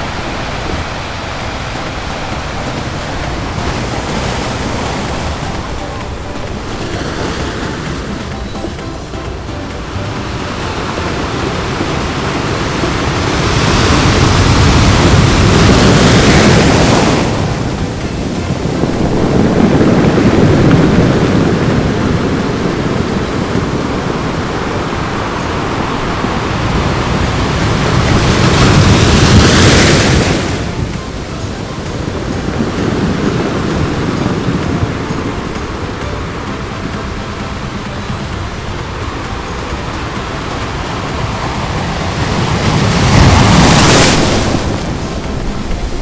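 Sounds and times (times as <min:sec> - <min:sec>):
ocean surf breaking on beach: 0:00.0 - 0:46.0.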